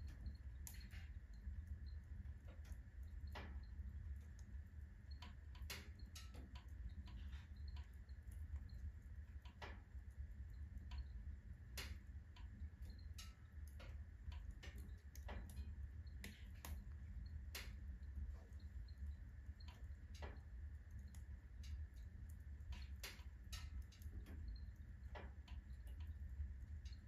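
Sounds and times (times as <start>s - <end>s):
firewood crackling and popping: 0.0s - 27.0s
steady low hum: 0.0s - 27.0s.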